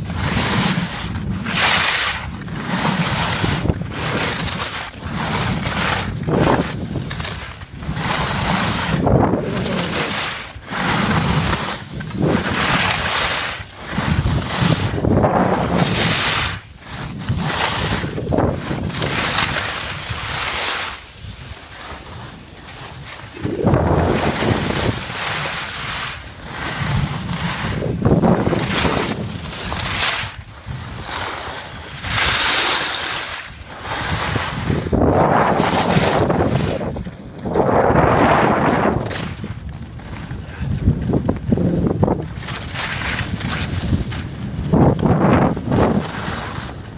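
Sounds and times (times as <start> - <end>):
wind buffeting microphone: 0.0 - 20.5, 21.1 - 32.5, 33.5 - 46.9
skis scraping over snow: 0.0 - 46.9.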